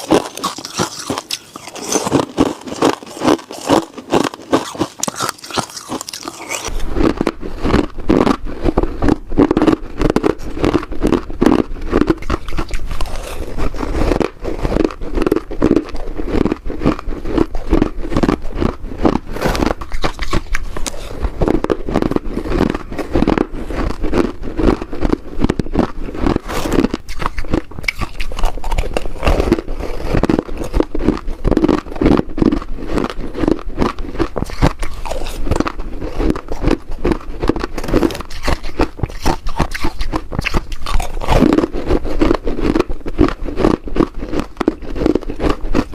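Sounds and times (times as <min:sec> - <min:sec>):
person crunching ice: 0:00.0 - 0:45.9.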